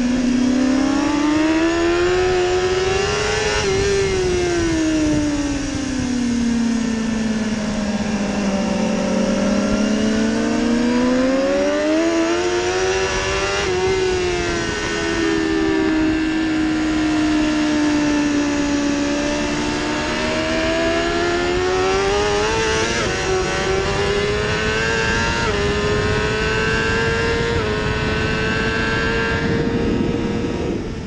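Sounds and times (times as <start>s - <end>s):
motorcycle engine at high revs: 0.0s - 31.0s
wind rush: 0.0s - 31.0s.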